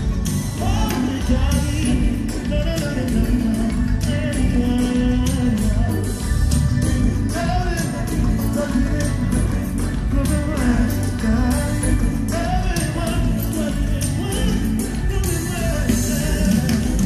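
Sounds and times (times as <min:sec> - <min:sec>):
live pop band music: 0:00.0 - 0:17.0
sung melody: 0:00.0 - 0:17.0.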